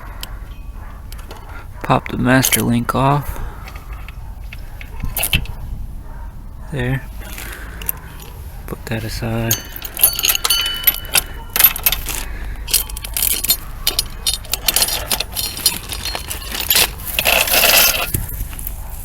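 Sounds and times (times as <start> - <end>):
metal chain clinking: 0.0 - 3.0, 3.6 - 5.6, 7.2 - 18.9
chain scraping rattle: 0.0 - 19.0.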